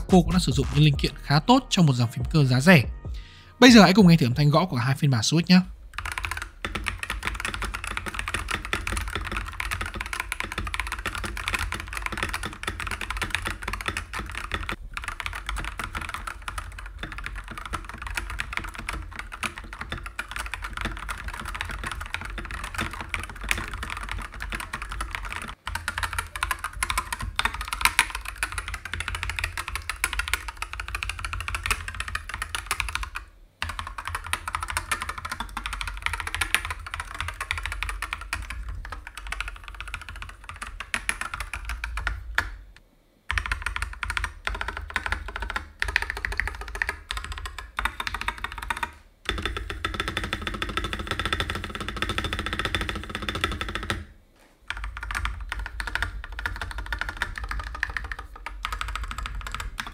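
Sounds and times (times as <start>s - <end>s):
mechanical keyboard typing: 5.9s - 42.6s, 43.3s - 54.1s, 54.7s - 59.9s.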